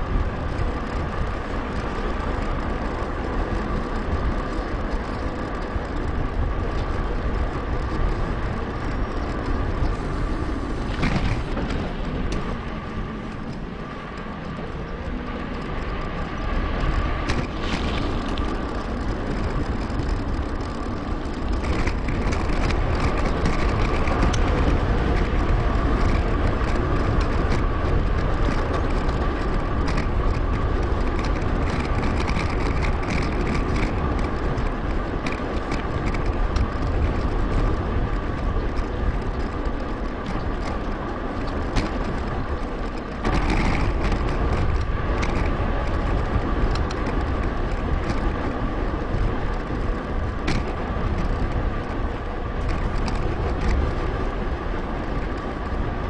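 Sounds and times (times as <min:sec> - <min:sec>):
bicycle tyre noise: 0:00.0 - 0:56.0
wind rushing on microphone: 0:00.0 - 0:56.0.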